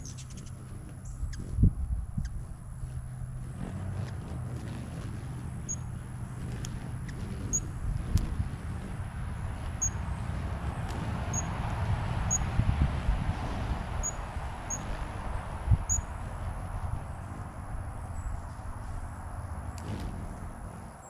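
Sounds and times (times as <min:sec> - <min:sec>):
soft whirring: 0:00.0 - 0:21.0
wind buffeting microphone: 0:00.0 - 0:21.0.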